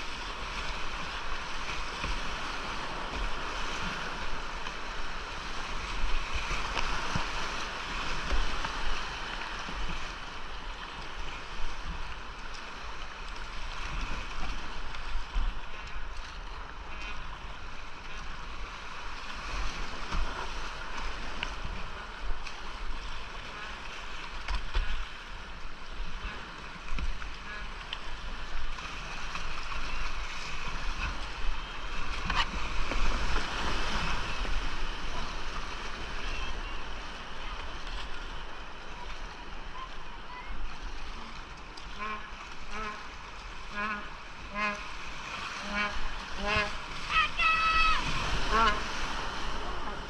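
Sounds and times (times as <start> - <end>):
rushing whitewater: 0.0 - 50.0
water splashing: 0.0 - 50.0.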